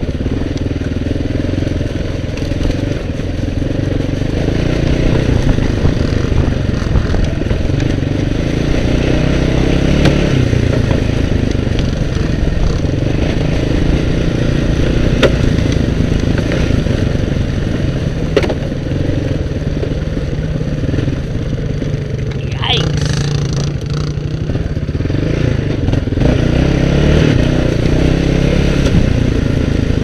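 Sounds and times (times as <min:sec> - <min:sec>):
atv engine running under load: 0:00.0 - 0:30.0.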